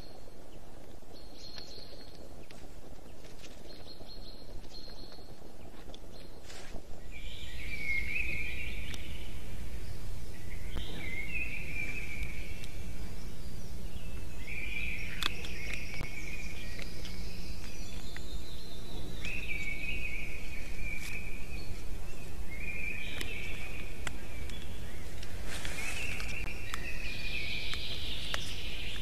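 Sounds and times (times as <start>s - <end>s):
bird singing: 0.0s - 29.0s
low microphone rumble: 0.0s - 29.0s.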